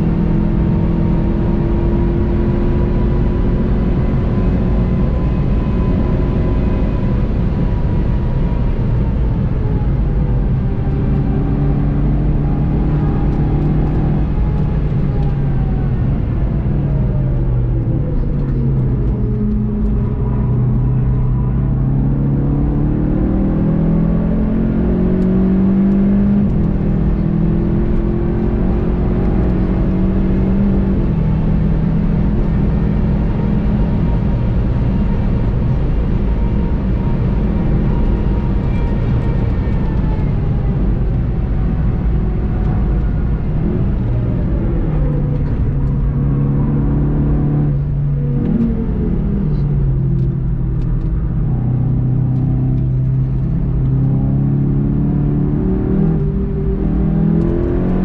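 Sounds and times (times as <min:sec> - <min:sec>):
car engine accelerating and braking: 0:00.0 - 0:58.0
road and wind noise: 0:00.0 - 0:58.0.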